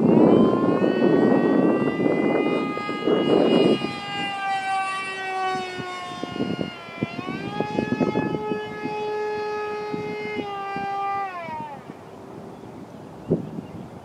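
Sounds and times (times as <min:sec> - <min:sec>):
model plane motor whine: 0:00.0 - 0:12.4.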